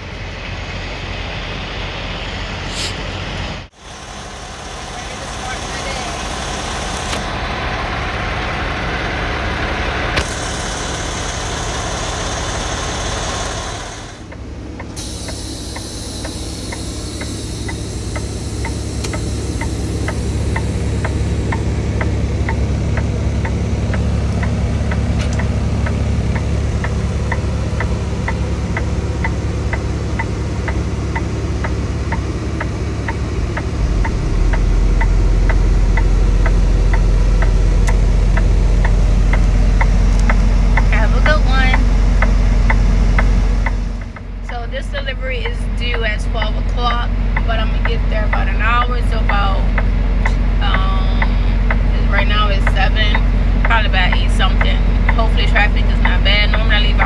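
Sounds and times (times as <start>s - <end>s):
diesel truck engine idling: 0.0s - 57.0s
steady regular ticking: 10.2s - 57.0s.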